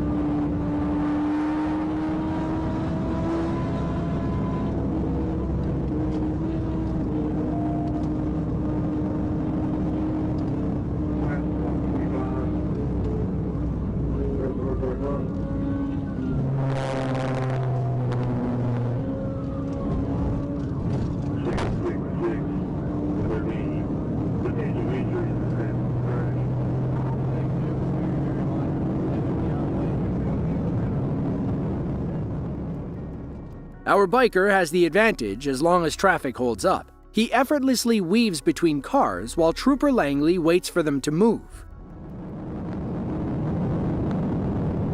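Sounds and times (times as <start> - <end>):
low hum: 0.0 - 33.9, 41.3 - 44.9
car engine and road drone: 0.0 - 44.9.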